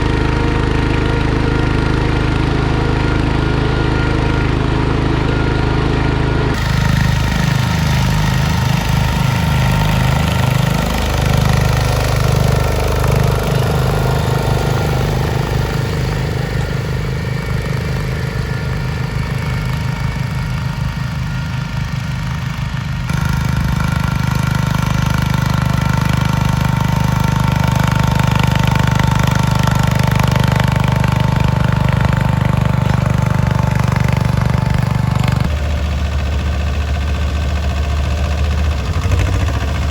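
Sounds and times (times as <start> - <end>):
garden tractor engines under load: 0.0 - 39.9.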